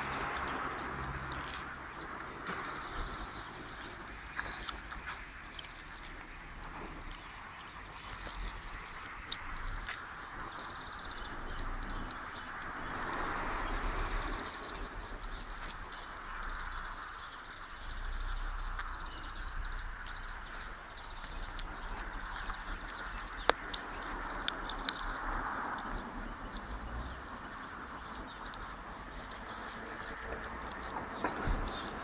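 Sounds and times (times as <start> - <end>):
background rush: 0.0 - 32.0
sharp clicks: 0.0 - 32.0
songbirds chirping: 0.0 - 32.0.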